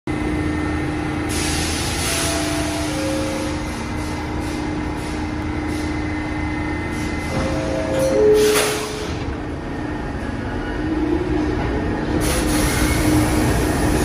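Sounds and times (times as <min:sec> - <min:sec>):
subway train humming: 0:00.1 - 0:14.0.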